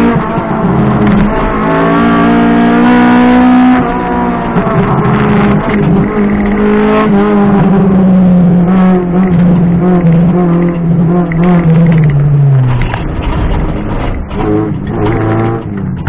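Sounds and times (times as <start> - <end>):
car engine from inside cabin: 0.0 - 12.9.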